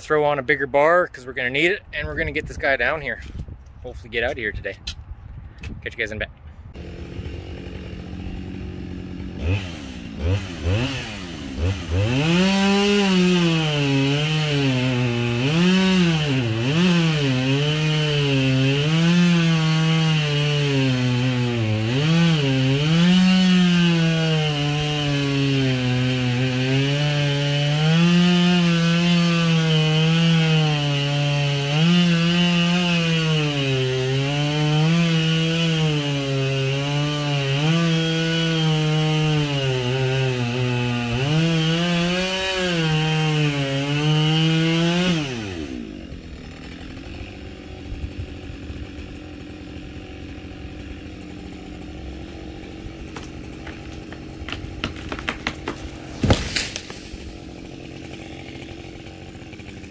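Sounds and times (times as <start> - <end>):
chainsaw cutting wood: 6.7 - 59.9.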